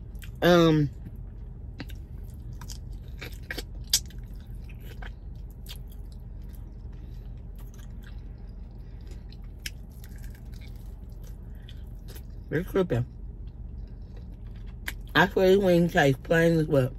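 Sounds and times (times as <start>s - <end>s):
person chewing: 0.0s - 12.4s, 13.3s - 15.1s
steady low hum: 0.0s - 16.9s.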